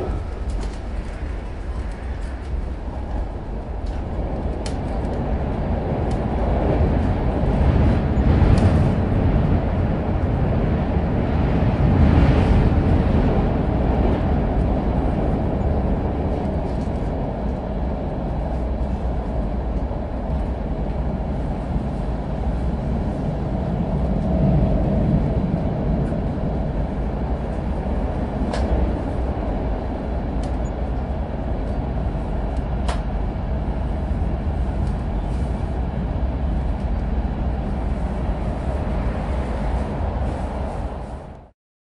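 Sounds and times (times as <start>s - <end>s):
train wheels rumbling on track: 0.0s - 41.5s.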